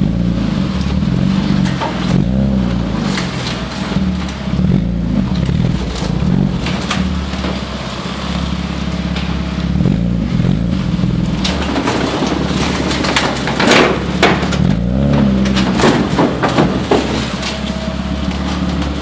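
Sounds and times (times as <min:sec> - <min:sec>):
car engine idling: 0:00.0 - 0:19.0
engine throttle blips: 0:00.0 - 0:19.0.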